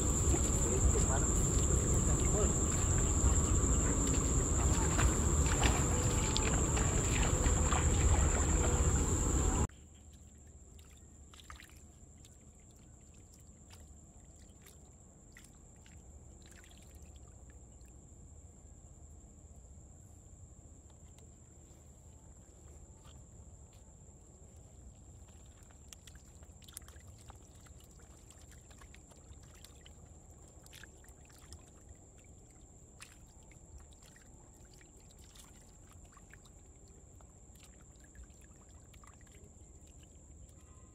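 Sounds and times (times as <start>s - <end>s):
small water splashes: 0.0s - 17.9s, 24.6s - 40.9s
water trickling and lapping: 0.0s - 18.1s, 20.9s - 40.9s.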